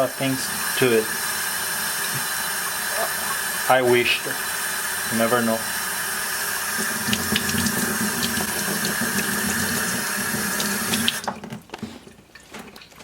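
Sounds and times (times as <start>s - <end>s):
tap water running into sink: 0.0s - 11.6s.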